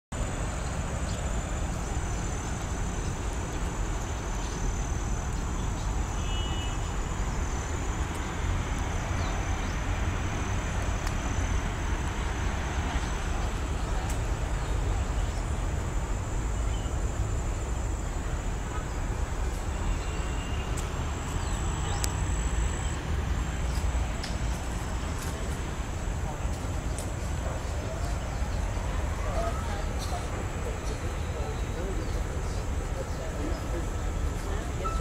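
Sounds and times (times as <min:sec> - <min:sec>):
distant city traffic rumble: 0:00.1 - 0:35.0.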